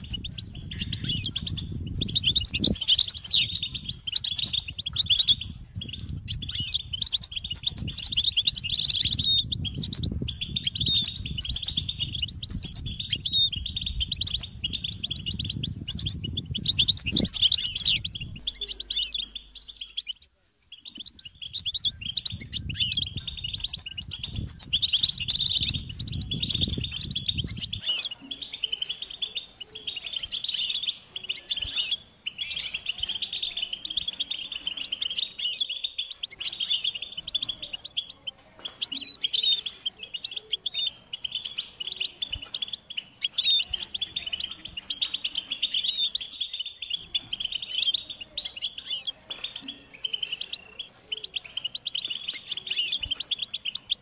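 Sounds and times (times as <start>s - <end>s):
goldfinch twittering: 0.0s - 54.0s.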